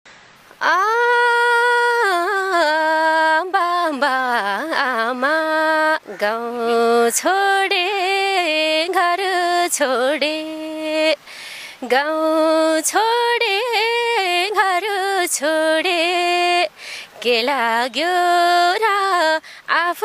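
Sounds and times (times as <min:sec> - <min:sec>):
woman singing unaccompanied: 0:00.5 - 0:20.0.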